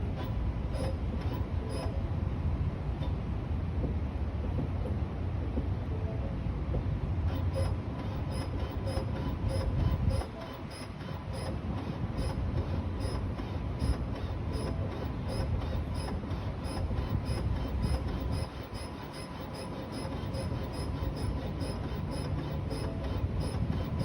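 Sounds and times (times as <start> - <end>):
faint steady whine: 0.0 - 24.0.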